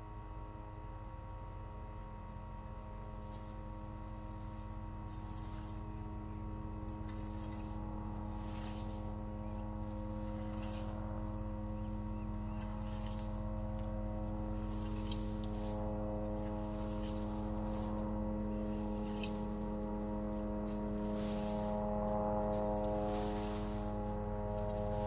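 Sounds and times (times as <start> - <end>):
mechanical hum: 0.0 - 25.0
rake scraping dry grass: 2.9 - 25.0.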